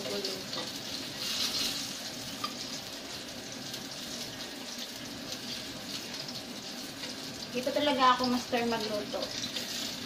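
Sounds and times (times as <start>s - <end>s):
eggplant sizzling in oil: 0.0s - 10.0s.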